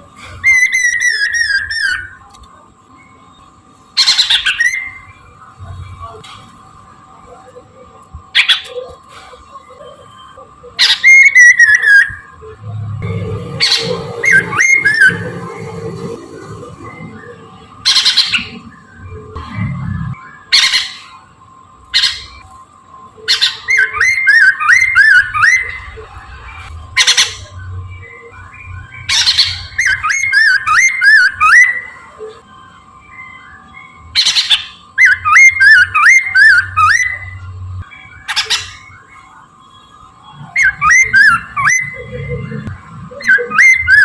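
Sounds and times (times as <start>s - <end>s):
bird whistled song: 0.3s - 2.3s, 2.9s - 5.4s, 9.6s - 44.0s.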